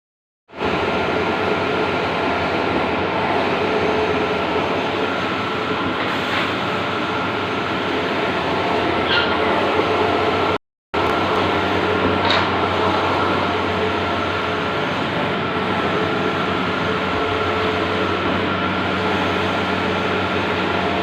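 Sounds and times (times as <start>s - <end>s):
printer running: 0.5s - 21.0s.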